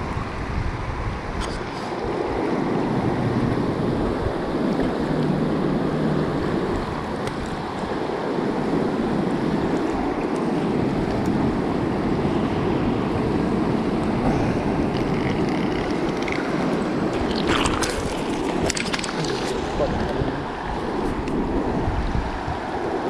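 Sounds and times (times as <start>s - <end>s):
wind rumbling on microphone: 0.0s - 23.0s
river current rushing: 1.6s - 23.0s.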